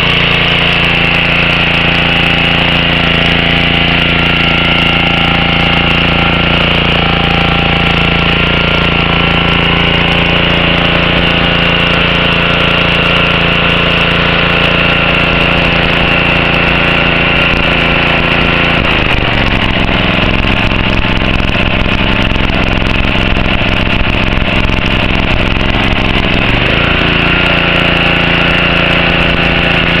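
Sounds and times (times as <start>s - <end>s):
pressure washer engine running: 0.0s - 30.0s.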